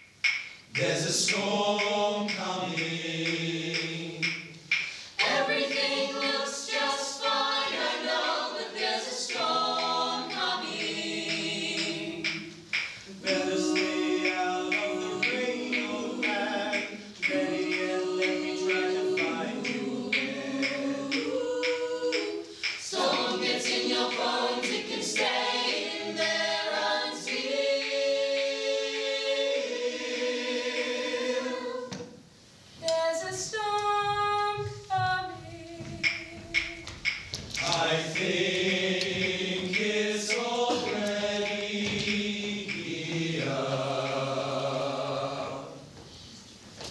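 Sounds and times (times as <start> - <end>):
group singing a cappella: 0.7 - 46.6.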